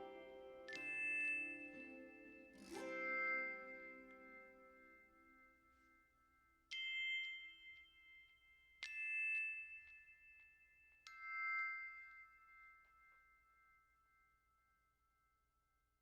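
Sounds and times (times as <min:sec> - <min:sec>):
bell-like metallic notes: 0:00.0 - 0:13.9.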